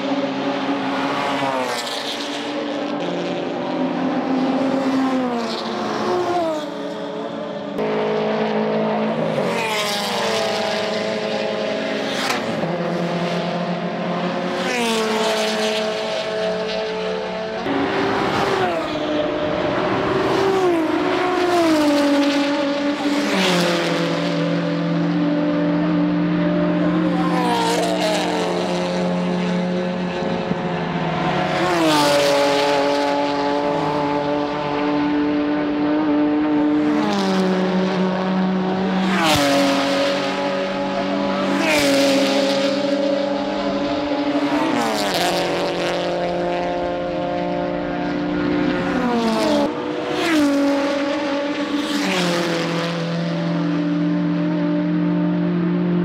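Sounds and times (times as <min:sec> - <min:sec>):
race cars passing at speed: 0:00.0 - 0:56.0.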